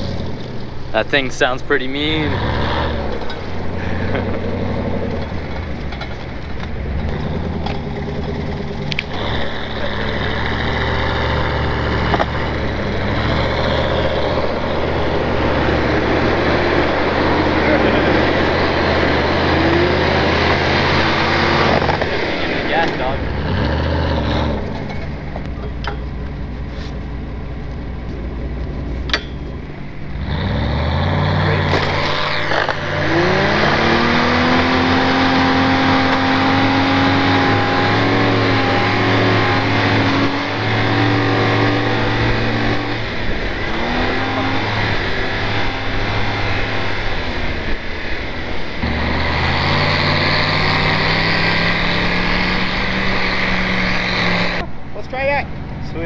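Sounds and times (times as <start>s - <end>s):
vehicle engine under load: 0.0s - 56.0s
wind and road noise: 0.0s - 56.0s.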